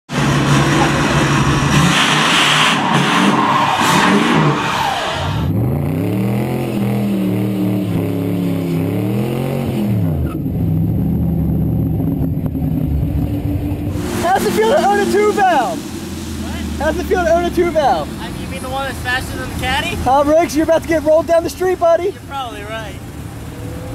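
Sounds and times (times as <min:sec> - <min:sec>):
car engine revving: 0:00.1 - 0:23.9
car engine running: 0:00.1 - 0:23.9.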